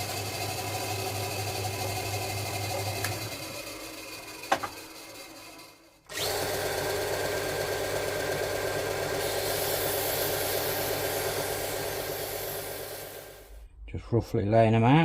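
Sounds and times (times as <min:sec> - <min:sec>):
electric power tool running: 0:00.0 - 0:13.6.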